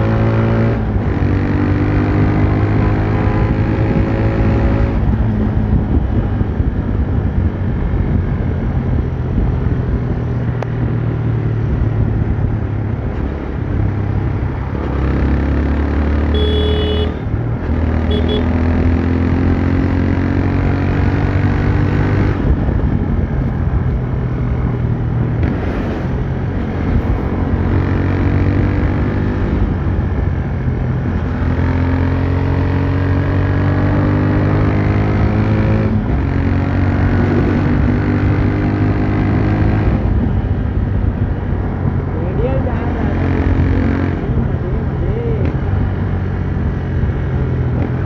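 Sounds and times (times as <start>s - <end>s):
road and wind noise: 0.0s - 48.0s
motorcycle engine running: 0.8s - 48.0s.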